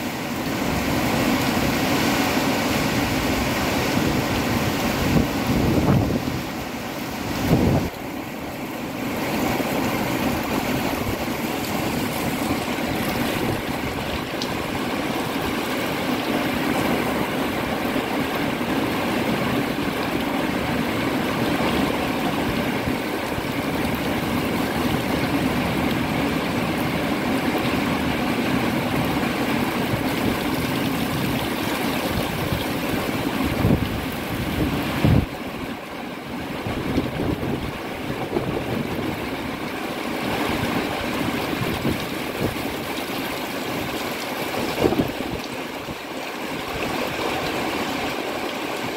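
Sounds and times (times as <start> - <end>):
heavy rain in strong wind: 0.0 - 48.9.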